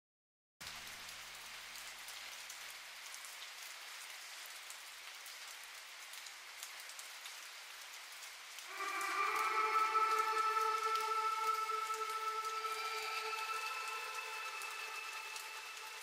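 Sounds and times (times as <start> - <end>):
rain pattering: 0.6 - 16.0.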